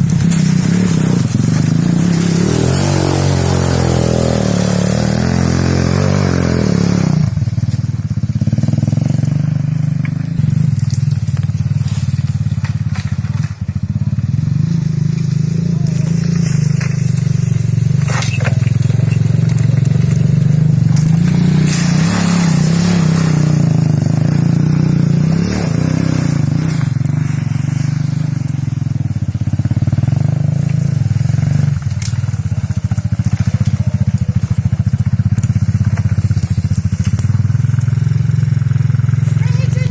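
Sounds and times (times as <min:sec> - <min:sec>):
single-cylinder engine running: 0:00.0 - 0:39.9.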